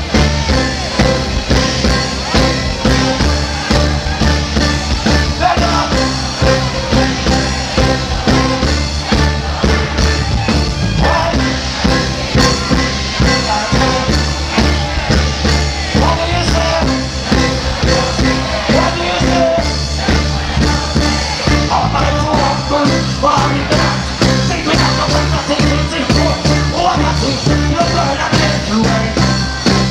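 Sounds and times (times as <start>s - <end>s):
live reggae band playing: 0.0s - 29.9s.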